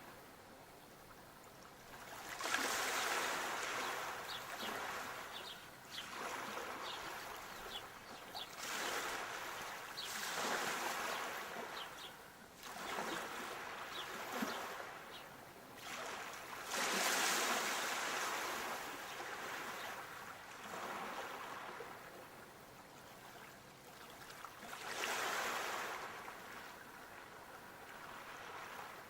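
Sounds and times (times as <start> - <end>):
sea waves breaking: 1.9 - 15.2, 15.8 - 22.1, 24.2 - 29.0.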